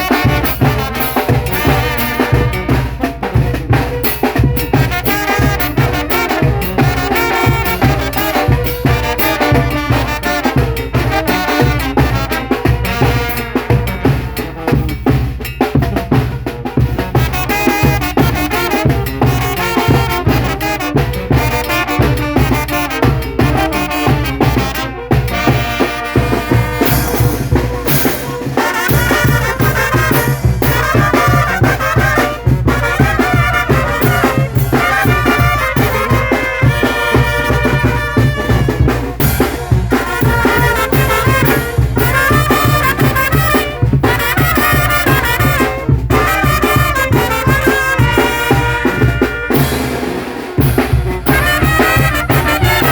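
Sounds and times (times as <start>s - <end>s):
brass melody: 0.0s - 52.9s
drums keeping steady beat: 0.0s - 52.9s.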